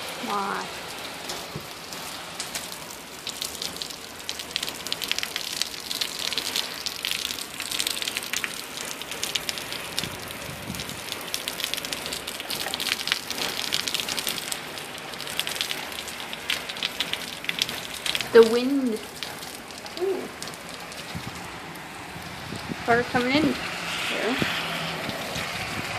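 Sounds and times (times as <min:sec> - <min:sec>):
heavy rain against window screen: 0:00.0 - 0:25.9.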